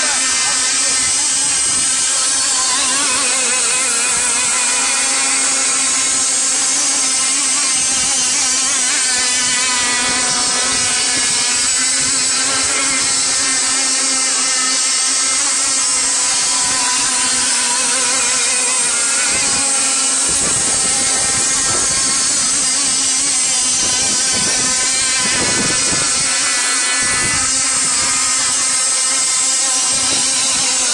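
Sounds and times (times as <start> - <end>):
model boat motor whine: 0.0 - 30.9.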